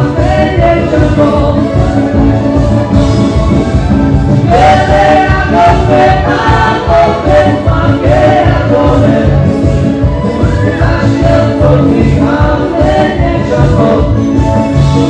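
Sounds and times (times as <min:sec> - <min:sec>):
live band playing dance song: 0:00.0 - 0:15.0
person singing: 0:00.0 - 0:15.0.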